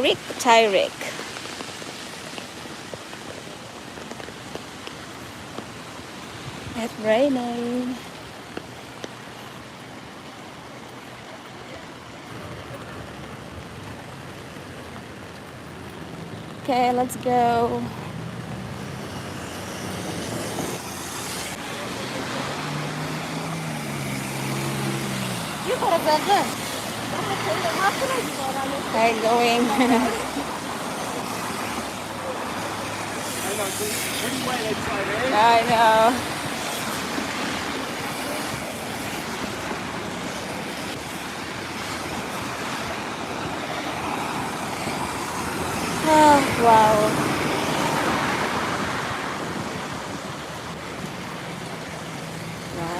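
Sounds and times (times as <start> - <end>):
rain hiss: 0.0 - 52.9
tyres on wet road: 0.0 - 52.9.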